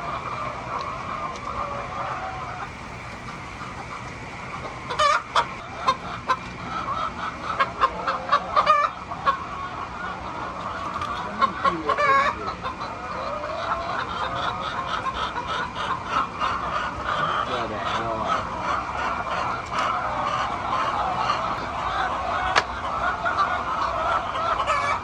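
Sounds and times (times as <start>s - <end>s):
hens clucking: 0.0s - 25.0s
hens squawking: 0.0s - 25.0s.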